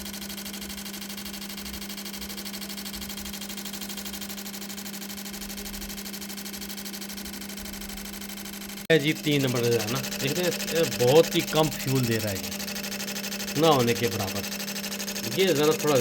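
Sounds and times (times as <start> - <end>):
test bench hum: 0.0 - 16.0
injectors pulsing: 0.9 - 16.0.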